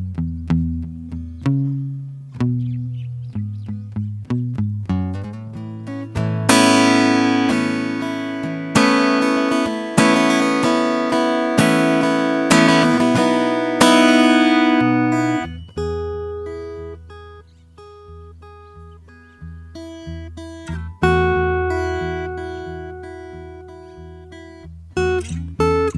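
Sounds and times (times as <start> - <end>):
acoustic guitar strumming: 0.5 - 25.9.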